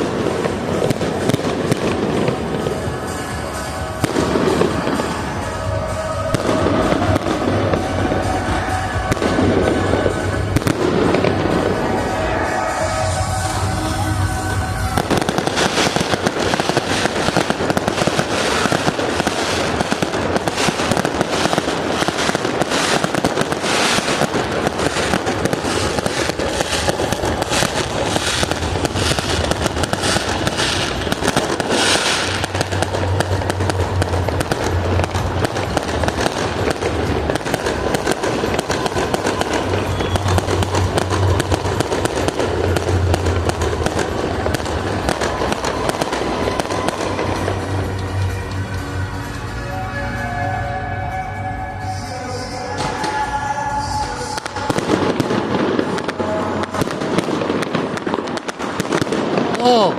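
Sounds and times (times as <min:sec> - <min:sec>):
fireworks bangs and crackling: 0:00.0 - 0:59.9
music: 0:00.0 - 0:59.9.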